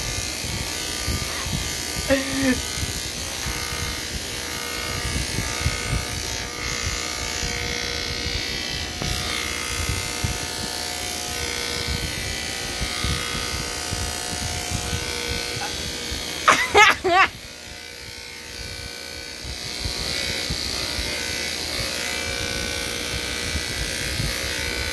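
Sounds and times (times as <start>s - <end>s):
electric hair clippers buzzing: 0.0s - 24.9s.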